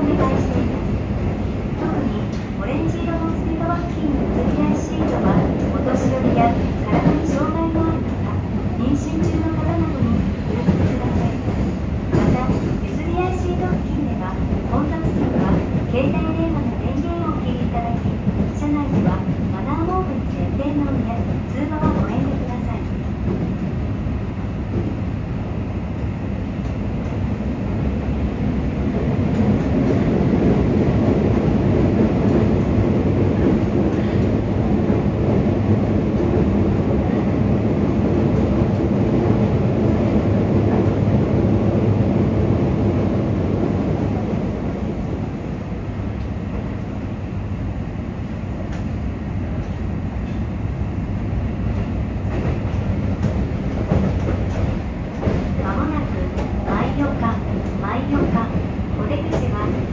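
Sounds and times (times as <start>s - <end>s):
train wheels rumbling in tunnel: 0.0s - 59.9s.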